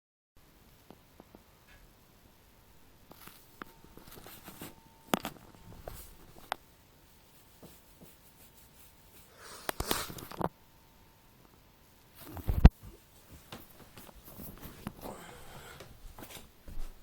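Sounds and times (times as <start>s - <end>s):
faint steady hum: 0.4s - 17.0s.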